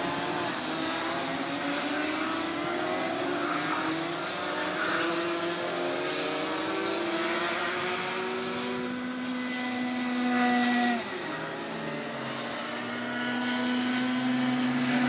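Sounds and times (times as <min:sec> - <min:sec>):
kart engines racing: 0:00.0 - 0:15.0.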